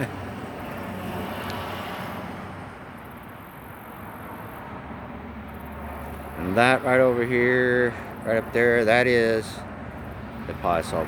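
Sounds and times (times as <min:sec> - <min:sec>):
passing vehicles rushing: 0:00.0 - 0:11.0.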